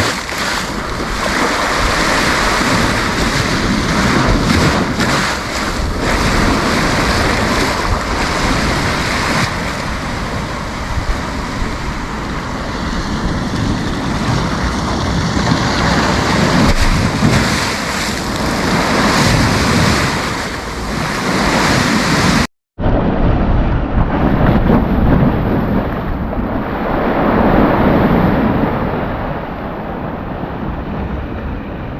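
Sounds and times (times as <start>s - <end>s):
sea waves breaking on beach: 0.0s - 22.5s, 24.0s - 31.9s
wind buffeting microphone: 0.0s - 31.9s.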